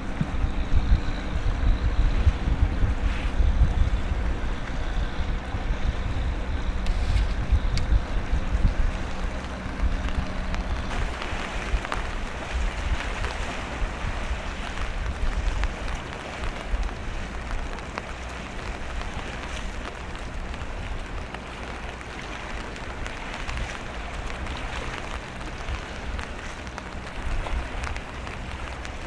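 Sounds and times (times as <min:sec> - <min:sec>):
choppy sea: 0:00.0 - 0:29.0
rain hiss: 0:00.0 - 0:29.0
wind buffeting microphone: 0:00.0 - 0:29.0.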